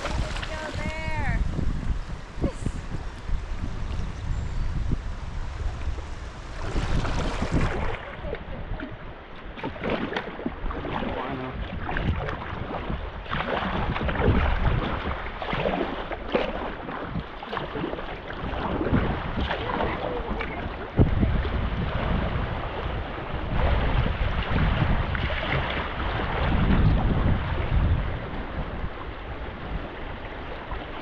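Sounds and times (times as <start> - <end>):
kayak paddle splashes: 0.0 - 31.0
wind rumbling on microphone: 0.0 - 31.0.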